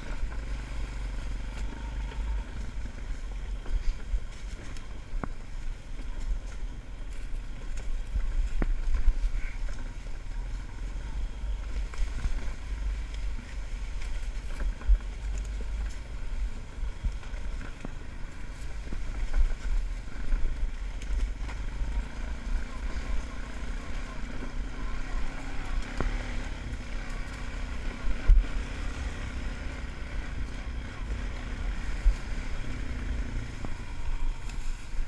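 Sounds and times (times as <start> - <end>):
atv engine rumbling: 0.0 - 35.0.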